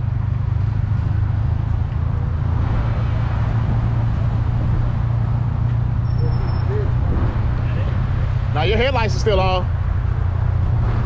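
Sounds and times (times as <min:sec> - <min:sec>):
pickup truck engine humming: 0:00.0 - 0:11.0.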